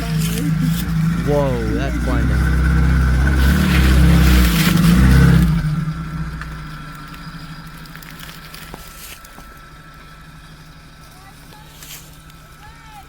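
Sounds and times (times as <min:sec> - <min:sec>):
off-road vehicle engine: 0:00.0 - 0:13.0.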